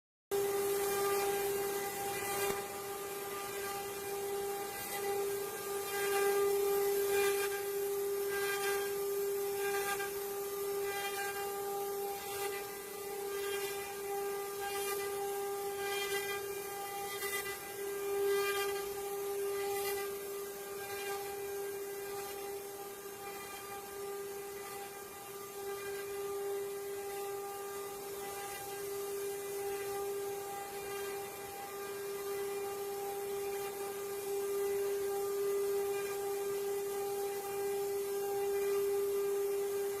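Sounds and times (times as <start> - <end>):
router spindle whining: 0.4 - 40.0.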